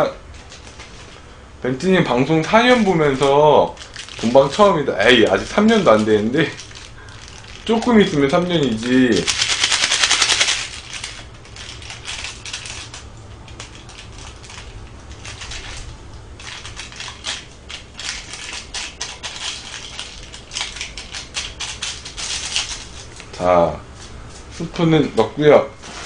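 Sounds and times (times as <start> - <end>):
plastic sachets crinkling: 0.3 - 23.5.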